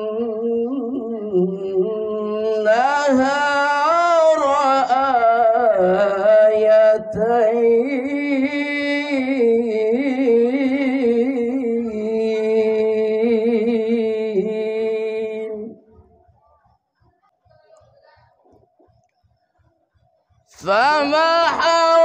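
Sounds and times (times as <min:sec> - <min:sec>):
man chanting recitation: 0:00.0 - 0:16.6, 0:20.5 - 0:22.0.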